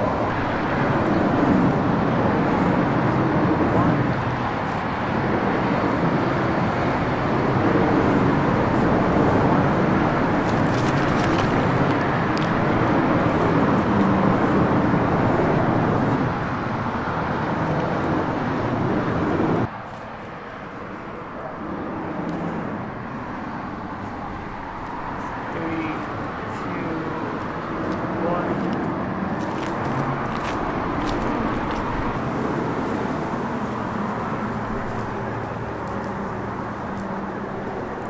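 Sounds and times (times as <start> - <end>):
rushing highway traffic: 0.0 - 38.0.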